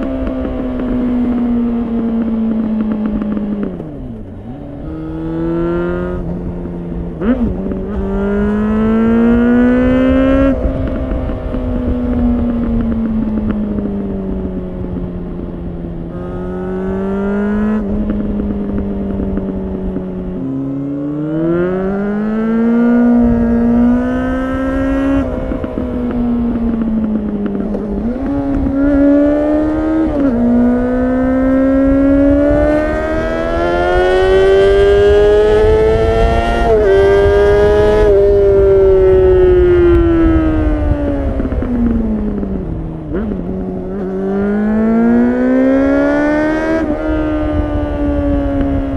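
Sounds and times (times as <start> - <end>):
motorcycle engine revving: 0.0 - 48.9
wind rush: 4.8 - 48.9.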